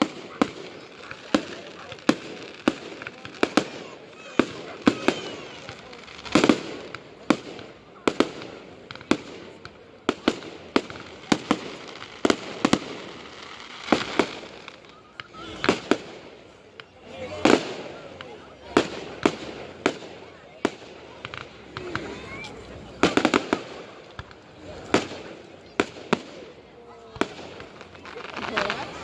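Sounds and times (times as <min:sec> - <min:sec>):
fireworks bangs and cracks: 0:00.0 - 0:29.0
fireworks crackling: 0:00.0 - 0:29.0.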